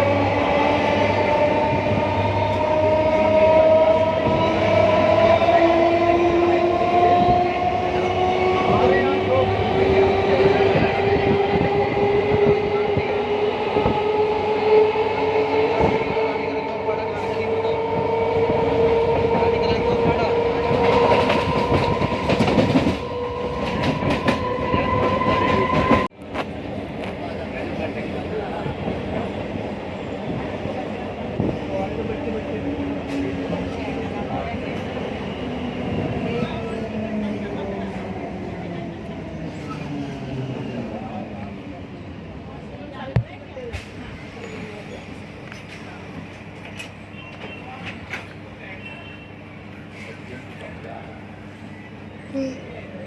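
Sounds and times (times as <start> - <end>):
train rumble: 0.0 - 53.0.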